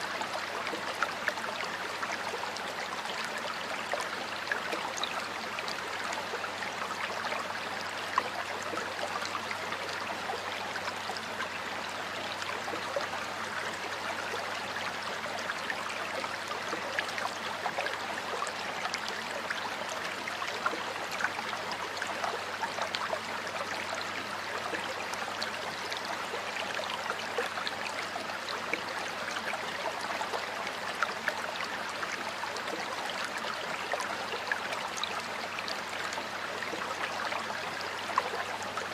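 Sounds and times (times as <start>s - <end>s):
small splashes and trickles: 0.0s - 38.9s
stream water flowing: 0.0s - 38.9s.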